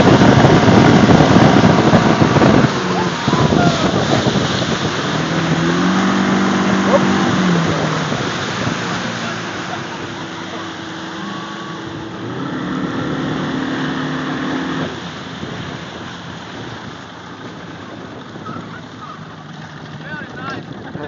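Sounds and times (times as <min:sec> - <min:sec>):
outboard engine running: 0:00.0 - 0:21.0
rush of boat wake: 0:00.0 - 0:21.0.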